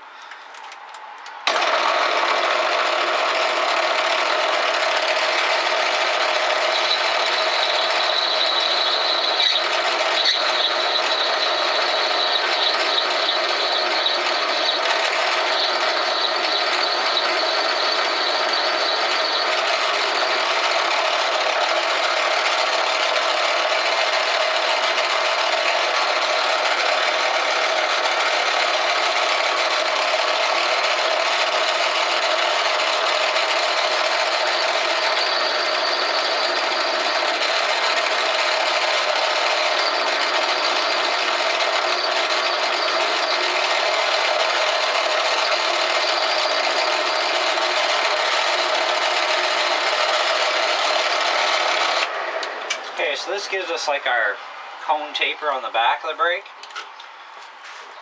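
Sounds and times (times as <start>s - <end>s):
metal lathe running: 0.0s - 57.8s.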